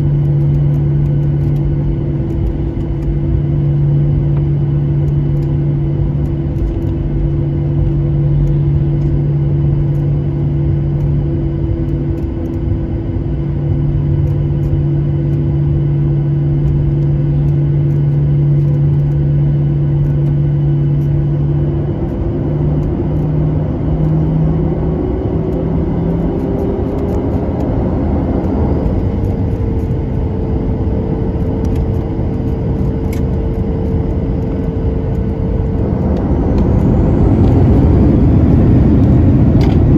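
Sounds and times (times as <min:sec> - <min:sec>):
cabin air noise: 0:00.0 - 0:39.9
jet engines idling hum: 0:00.0 - 0:39.9.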